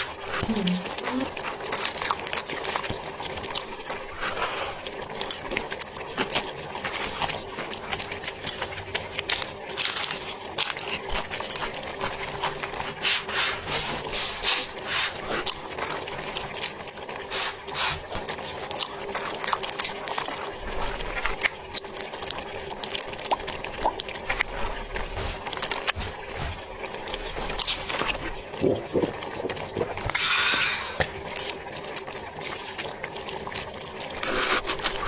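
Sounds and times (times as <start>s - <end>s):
crunching and chewing food: 0.0s - 30.2s, 31.2s - 35.0s.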